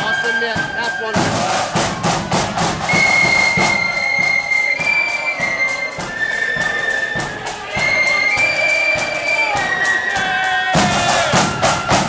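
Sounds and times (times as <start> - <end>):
drum beats: 0.0 - 12.0
marching band playing: 0.0 - 12.0.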